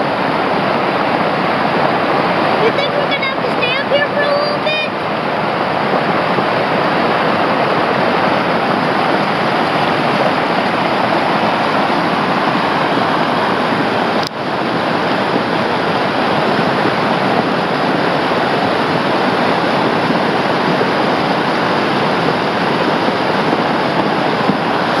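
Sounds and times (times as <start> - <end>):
flood water rushing over rocks: 0.0 - 25.0.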